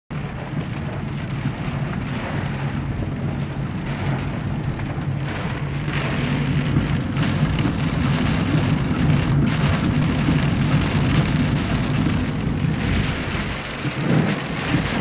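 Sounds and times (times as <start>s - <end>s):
car low hum: 0.1s - 15.0s
heavy rain on car roof: 0.1s - 15.0s.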